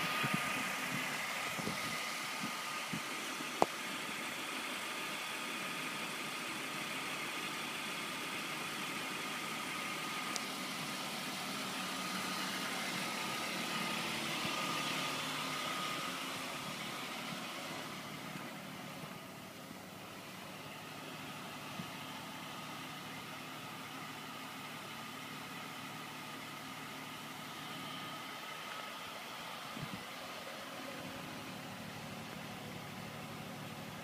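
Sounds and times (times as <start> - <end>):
car engine idling: 0.0 - 34.0
constant hiss: 0.0 - 34.0.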